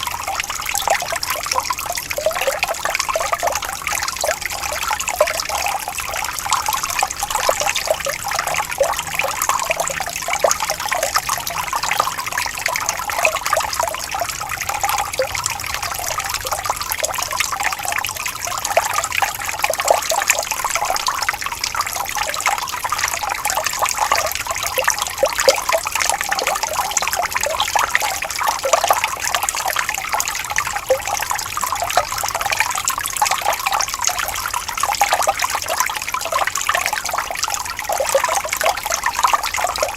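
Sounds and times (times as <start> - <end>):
stream water bubbling over stones: 0.0 - 39.9.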